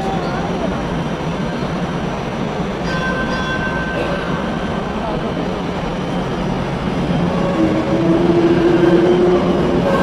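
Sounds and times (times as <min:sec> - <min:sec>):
streetcar rumbling on rails: 0:00.0 - 0:10.0.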